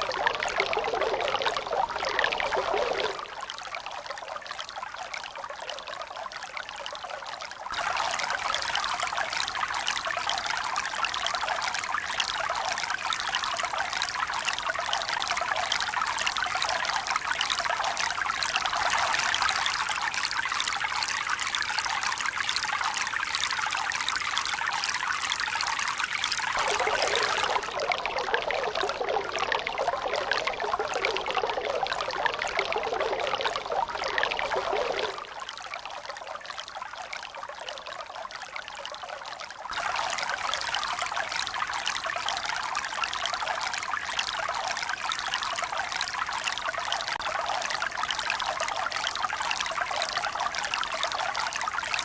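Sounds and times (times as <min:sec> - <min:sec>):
running water pouring and trickling: 0:00.0 - 0:52.0.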